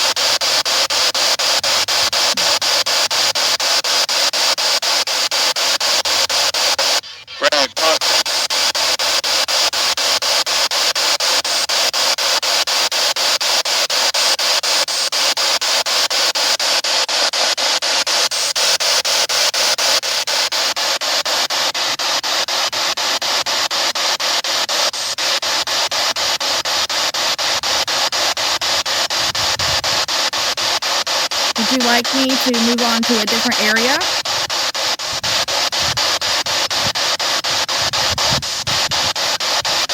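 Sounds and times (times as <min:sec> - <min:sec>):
pulsing radio static: 0:00.0 - 0:22.6, 0:23.7 - 0:39.9.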